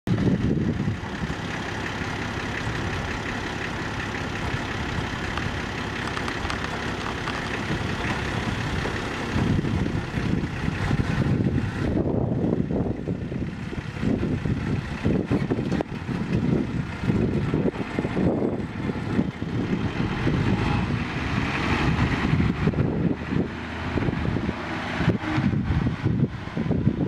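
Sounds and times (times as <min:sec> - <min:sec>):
truck engine idling: 0:00.1 - 0:27.0.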